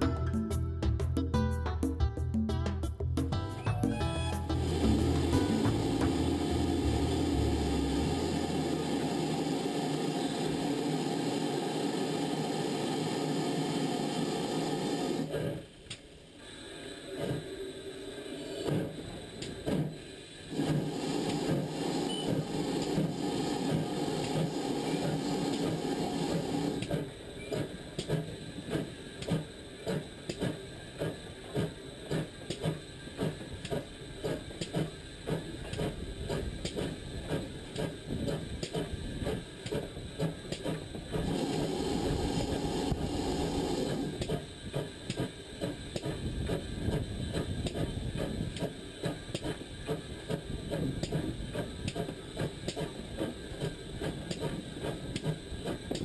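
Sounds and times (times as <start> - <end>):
steam locomotive exhaust beats: 4.2 - 56.0
steady steam rush: 4.5 - 56.0.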